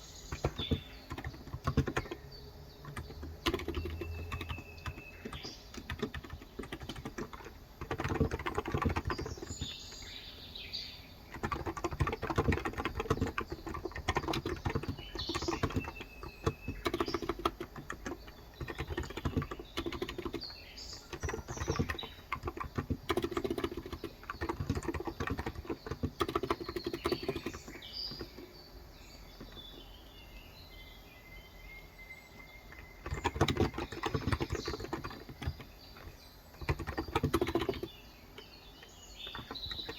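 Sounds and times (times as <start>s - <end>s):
fast keyboard typing: 0.0s - 10.1s, 11.2s - 28.6s, 32.7s - 39.9s
birds chirping: 0.0s - 39.9s.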